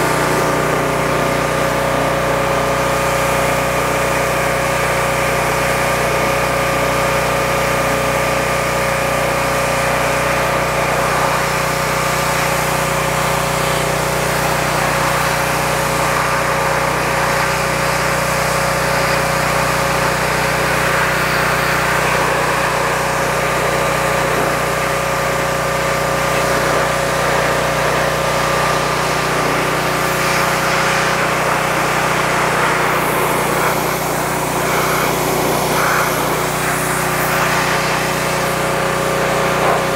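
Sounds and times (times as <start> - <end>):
pressure washer hum: 0.0 - 39.9
pressure washer water jet hissing: 0.0 - 39.9.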